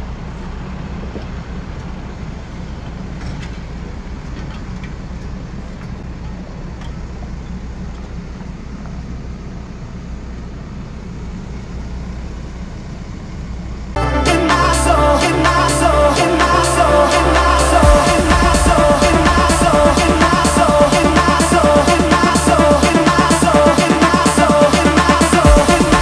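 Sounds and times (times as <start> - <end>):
forklift engine droning: 0.0 - 26.0.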